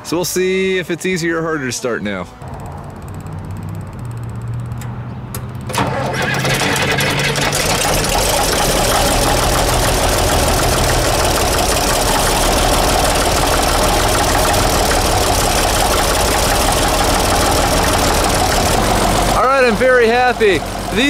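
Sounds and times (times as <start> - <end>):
diesel tractor engine running: 2.1 - 21.0.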